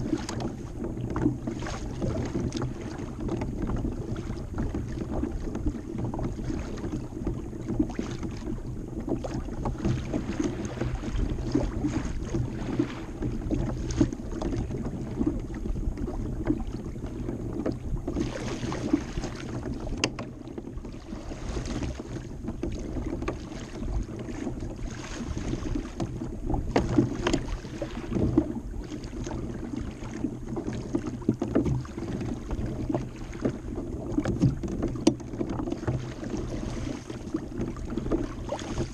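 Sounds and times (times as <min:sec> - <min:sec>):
water lapping against kayak hull: 0:00.0 - 0:38.9.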